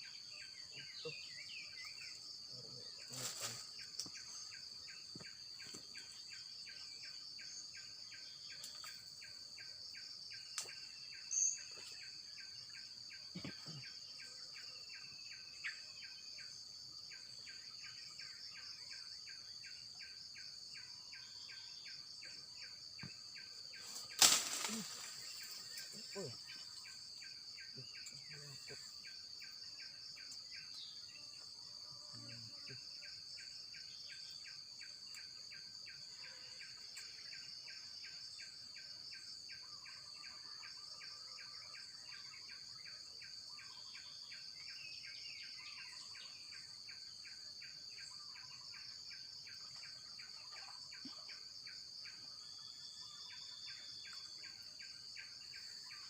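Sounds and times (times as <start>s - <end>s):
crickets chirping: 0.0s - 56.0s
insects droning: 0.0s - 56.0s.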